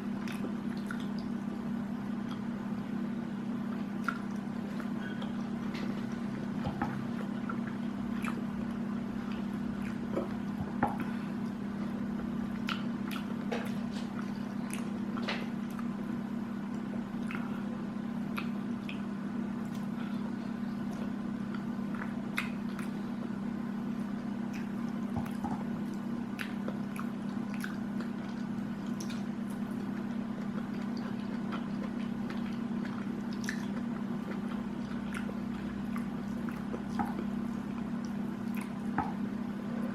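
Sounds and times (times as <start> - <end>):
steady low hum: 0.0 - 39.9
wet chewing of food: 0.1 - 3.0, 3.7 - 39.9.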